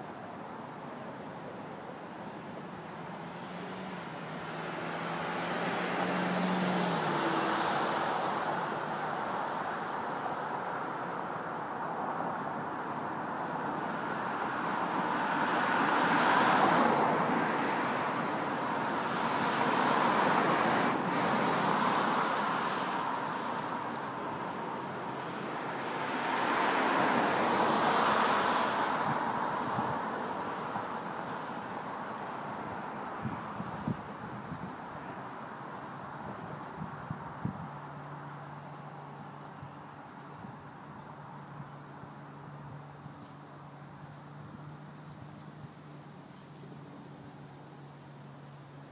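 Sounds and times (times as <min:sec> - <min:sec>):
cars passing: 0:00.0 - 0:48.9.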